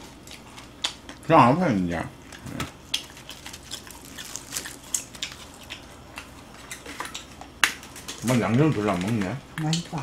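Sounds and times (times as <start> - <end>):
wet chewing clicks: 0.0 - 1.3, 2.2 - 10.0
crunching fried chicken: 0.0 - 9.7.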